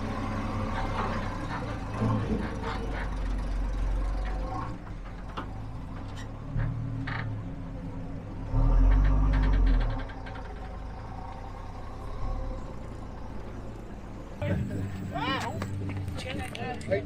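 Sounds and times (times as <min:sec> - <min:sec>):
car engines running at low revs: 0:00.0 - 0:17.0
deep engine rumble of passing car: 0:00.0 - 0:17.0.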